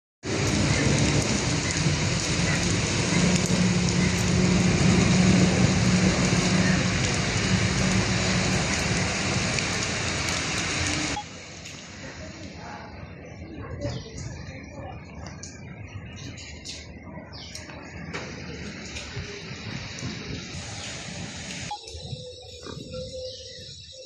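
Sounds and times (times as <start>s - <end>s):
heavy rain pouring: 0.2s - 24.0s.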